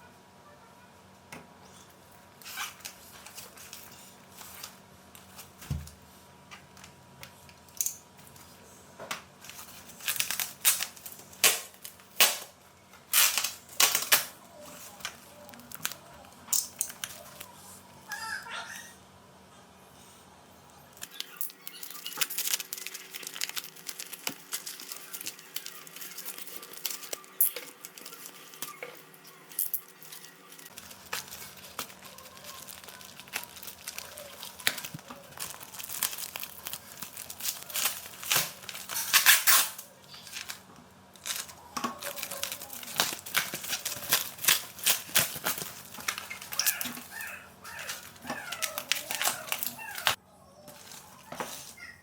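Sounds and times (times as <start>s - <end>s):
packaging crinkling and rustling: 2.4s - 6.0s, 9.3s - 18.0s, 20.9s - 51.9s.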